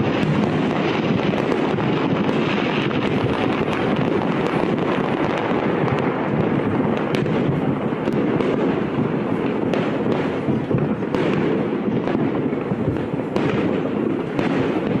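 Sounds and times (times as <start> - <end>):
fireworks barrage rumble: 0.0 - 15.0
sharp firework reports: 0.0 - 15.0.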